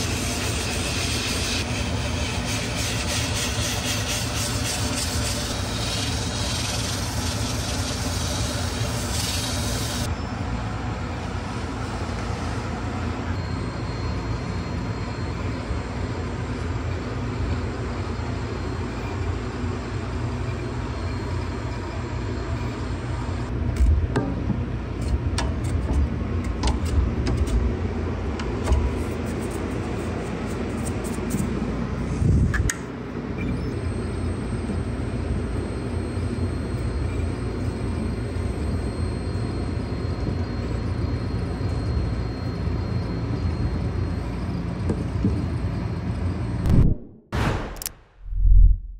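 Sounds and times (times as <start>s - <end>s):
lathe running with low rumble: 0.0s - 47.3s.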